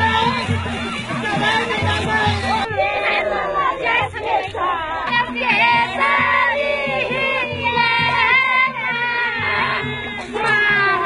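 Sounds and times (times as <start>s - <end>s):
low beat: 0.0s - 11.0s
women singing folk song together: 0.0s - 11.0s.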